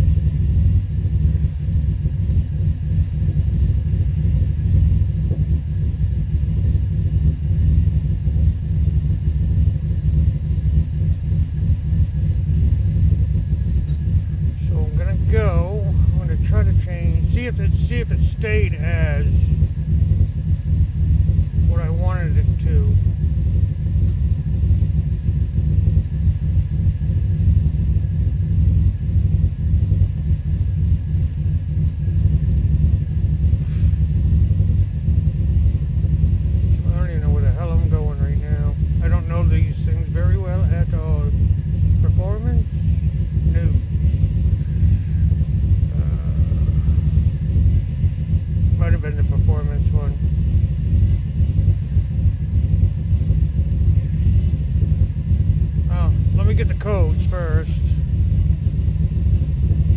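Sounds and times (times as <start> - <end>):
car engine idling roughly: 0.0 - 59.9.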